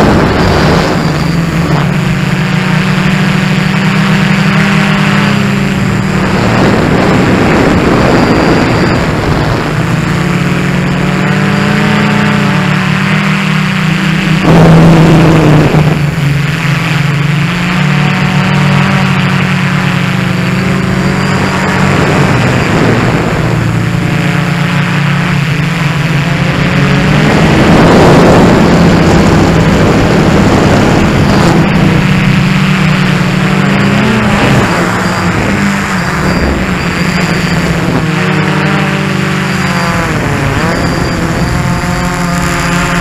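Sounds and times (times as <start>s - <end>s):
quadcopter motors buzzing: 0.0s - 43.0s
rushing noise: 0.0s - 43.0s.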